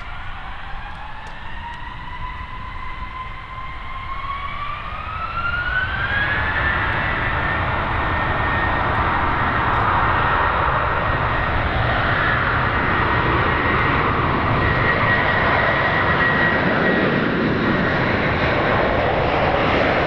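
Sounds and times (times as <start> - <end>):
jet engine whine: 0.0 - 20.0
jet roar: 0.0 - 20.0.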